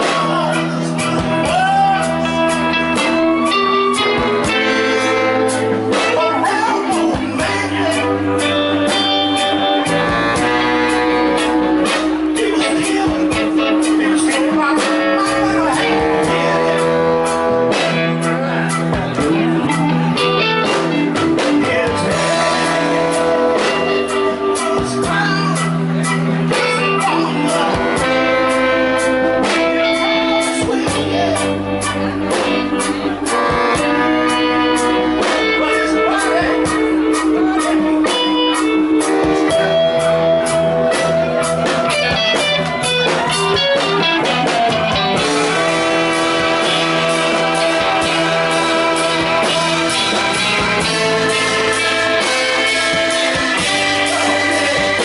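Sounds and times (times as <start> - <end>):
electric guitars: 0.0 - 55.0
horn section playing: 0.0 - 55.0.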